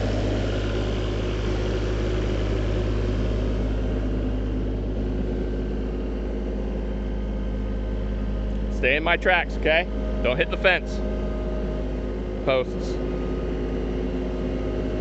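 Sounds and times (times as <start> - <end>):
engine running with low drone: 0.0 - 15.0.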